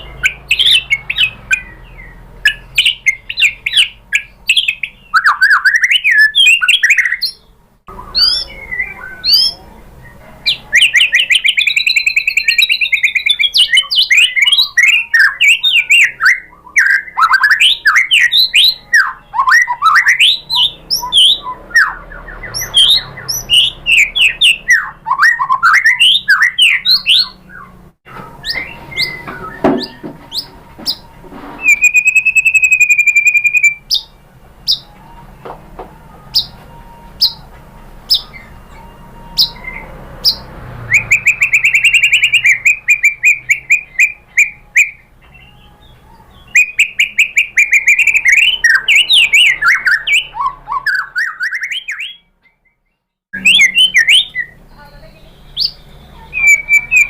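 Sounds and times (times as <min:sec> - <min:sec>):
bird singing whistled song: 0:00.0 - 0:35.0, 0:36.3 - 0:37.5, 0:38.1 - 0:57.0.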